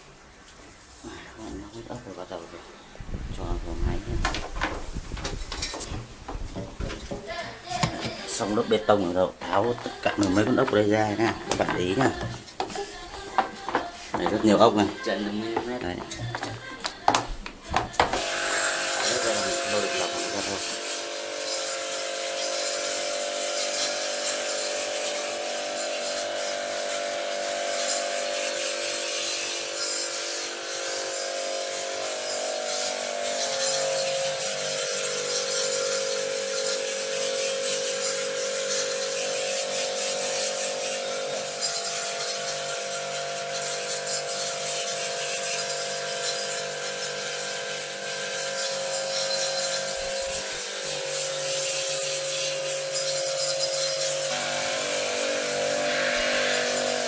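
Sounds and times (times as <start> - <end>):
small electric motor humming: 7.2 - 17.2, 17.8 - 57.0.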